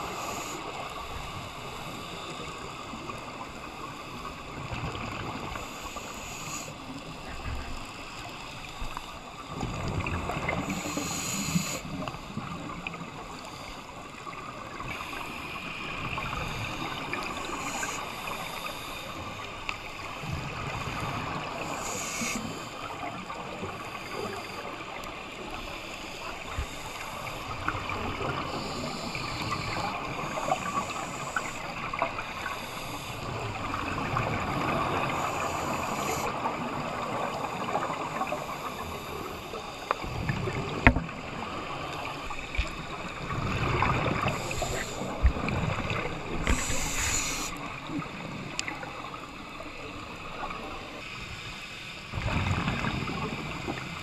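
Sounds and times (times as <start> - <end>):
faint ticks: 0.0 - 20.3, 20.9 - 36.6, 37.3 - 41.2, 44.0 - 49.6
steady underwater hiss: 0.0 - 54.0
underwater bubbles gurgling: 0.0 - 54.0.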